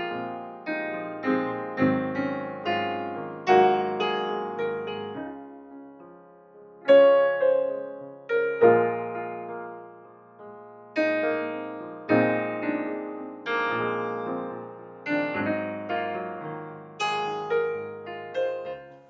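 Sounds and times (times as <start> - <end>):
slow gentle piano chords: 0.0 - 19.0.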